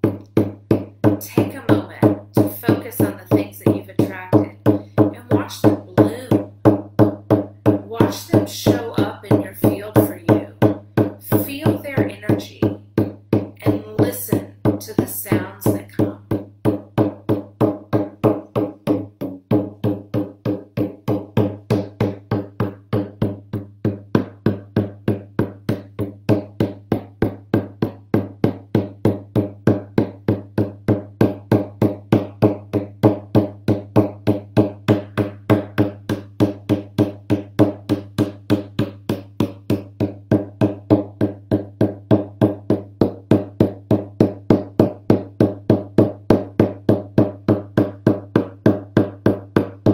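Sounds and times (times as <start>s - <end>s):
frame drum beaten with beater: 0.0s - 49.9s.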